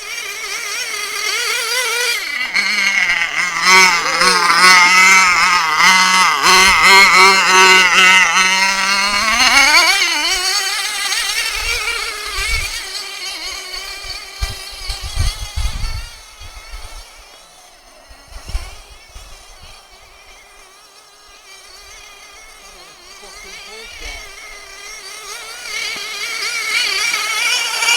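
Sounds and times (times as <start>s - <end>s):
small radio-controlled car engine: 0.0s - 27.9s.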